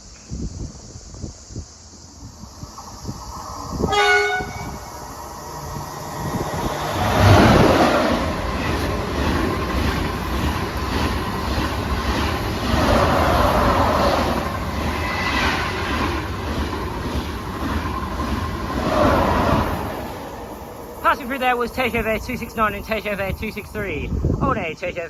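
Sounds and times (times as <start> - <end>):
high-speed train passing: 0.7 - 25.0.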